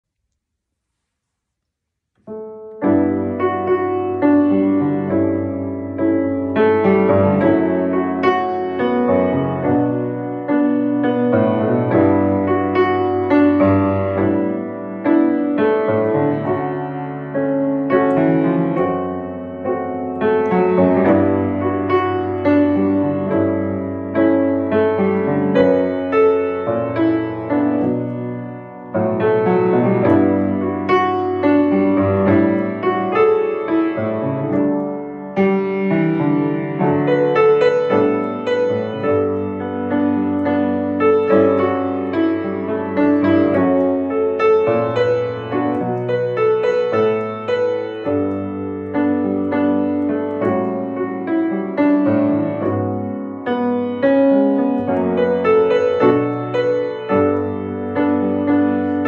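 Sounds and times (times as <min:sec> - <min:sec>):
grand piano chords: 0:02.1 - 0:59.0.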